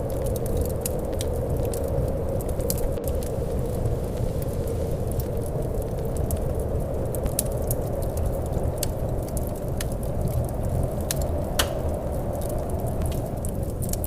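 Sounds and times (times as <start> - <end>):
low rumble of wind: 0.0 - 14.0
wood fire crackling and popping: 0.0 - 14.0.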